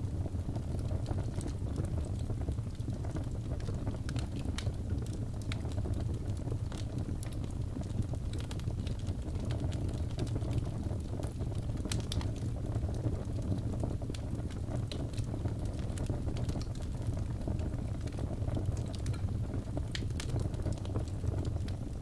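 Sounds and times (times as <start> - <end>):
low fire roar: 0.0 - 22.0
wood fire crackling: 0.0 - 22.0.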